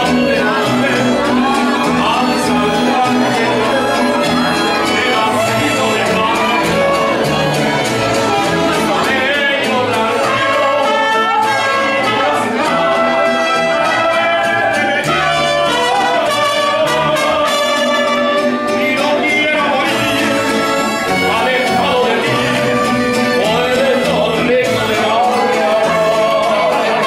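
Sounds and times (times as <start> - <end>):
mariachi band playing: 0.0 - 27.0.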